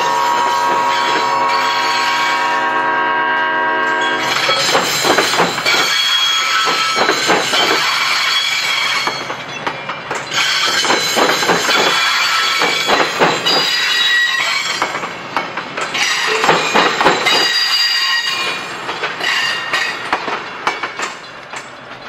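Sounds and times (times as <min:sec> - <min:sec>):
train wheels squealing: 0:00.0 - 0:02.6, 0:04.0 - 0:15.1, 0:15.9 - 0:21.9
wheels clunking over rail joints: 0:03.9 - 0:22.0.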